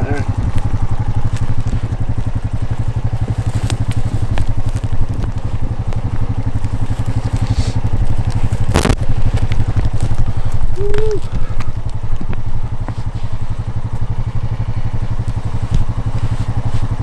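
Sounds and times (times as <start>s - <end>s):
engine idling: 0.0s - 17.0s
faint clicks: 0.2s - 14.3s.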